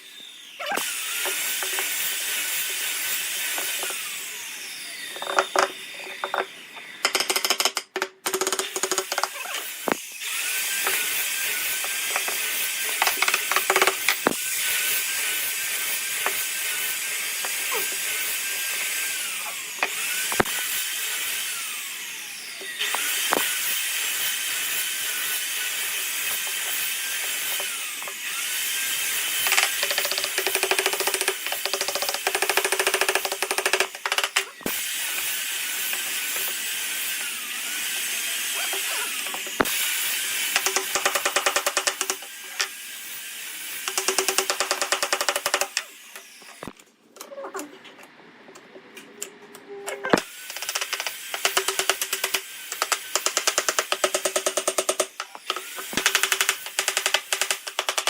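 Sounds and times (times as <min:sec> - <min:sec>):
power tools grinding wood: 0:00.0 - 0:46.8, 0:50.1 - 0:58.0.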